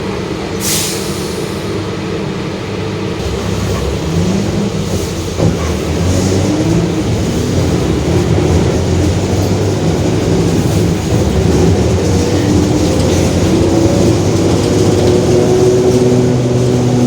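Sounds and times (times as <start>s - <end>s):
diesel bus engine running: 0.0s - 17.0s.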